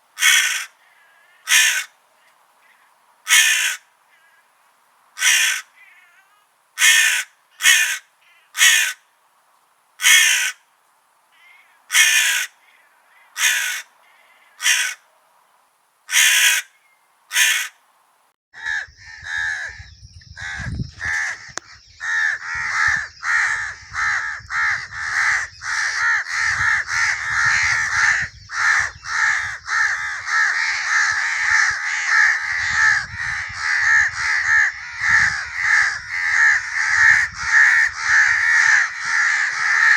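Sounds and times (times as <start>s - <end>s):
crows cawing: 0.2s - 2.0s, 2.6s - 4.5s, 5.2s - 6.2s, 6.8s - 9.1s, 10.0s - 10.7s, 11.3s - 15.1s, 16.1s - 17.8s, 18.6s - 39.9s.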